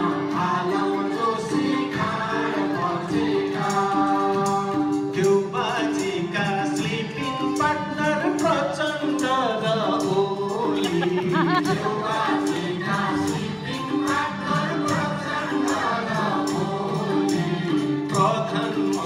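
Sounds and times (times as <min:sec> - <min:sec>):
group singing in chorus: 0:00.0 - 0:19.0
instrumental accompaniment with beat: 0:00.0 - 0:19.0.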